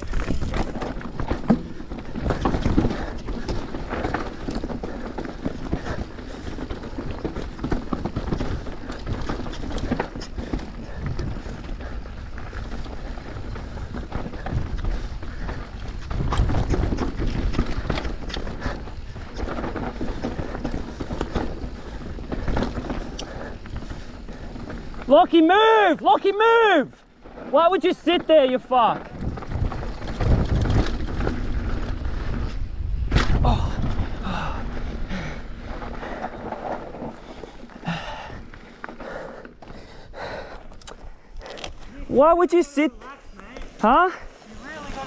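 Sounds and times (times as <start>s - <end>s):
bike rattling over bumps: 0.0s - 45.0s
tyres rushing on loose dirt: 0.0s - 45.0s.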